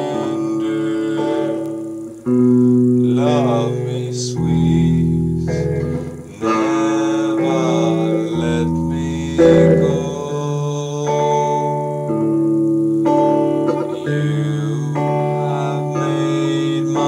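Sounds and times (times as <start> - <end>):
guitar chords: 0.0 - 17.0
man singing long notes: 0.0 - 17.0.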